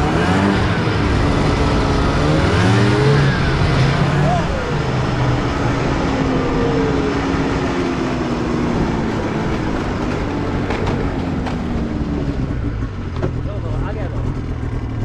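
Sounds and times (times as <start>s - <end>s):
constant rushing noise: 0.0s - 15.0s
vehicle engine running: 0.0s - 15.0s.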